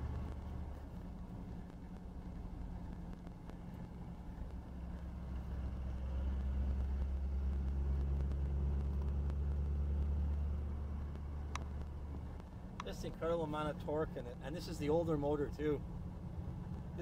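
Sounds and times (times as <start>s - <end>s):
diesel engine drone from inside cab: 0.0s - 17.0s.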